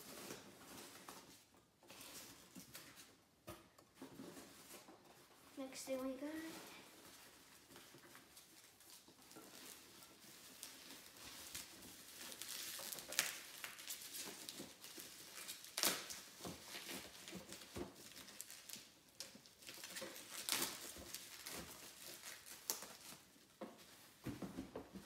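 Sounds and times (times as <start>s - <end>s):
plastic packaging rustling: 0.0s - 25.0s.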